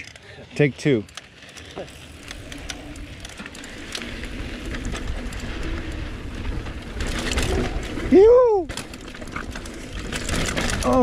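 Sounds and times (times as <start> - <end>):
bike tyre rumble on dirt: 0.0 - 11.0
bike knocks and rattles: 1.6 - 11.0.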